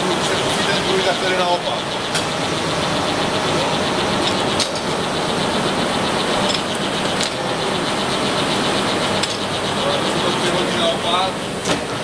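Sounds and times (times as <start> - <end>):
lathe whirring: 0.0 - 12.0.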